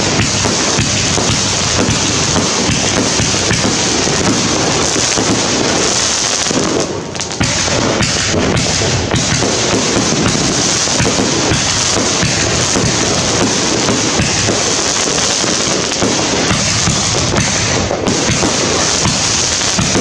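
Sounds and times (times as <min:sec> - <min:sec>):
firework shells booming and crackling: 0:00.0 - 0:20.0.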